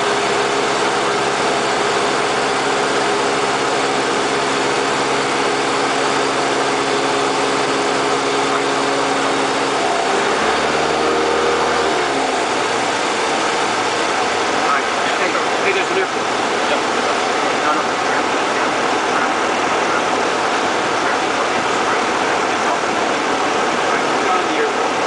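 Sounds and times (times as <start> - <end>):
light aircraft engine drone: 0.0 - 25.0.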